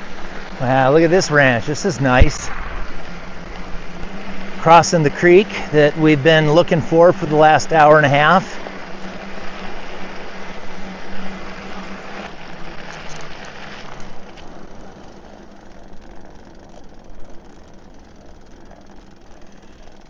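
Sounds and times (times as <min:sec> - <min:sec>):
bicycle tyres rushing through water: 0:00.0 - 0:20.0
bike humming and rattling: 0:00.0 - 0:20.0.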